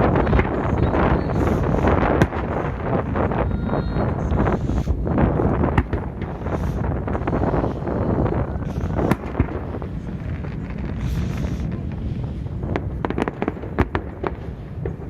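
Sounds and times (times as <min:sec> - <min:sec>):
fireworks bangs and crackles: 0:00.0 - 0:15.0
wind buffeting microphone: 0:00.0 - 0:15.0.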